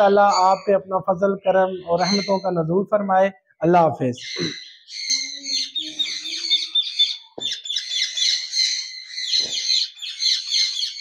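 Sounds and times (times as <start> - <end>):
parrots chattering and chirping: 0.0 - 2.6, 4.2 - 11.0.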